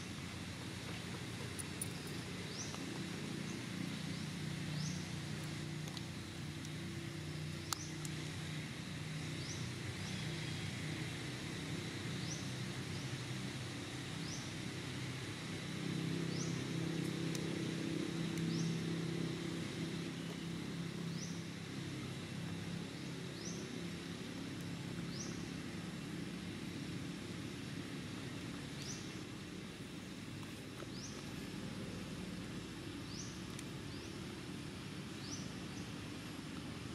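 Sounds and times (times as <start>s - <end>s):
low engine drone: 0.0s - 36.9s.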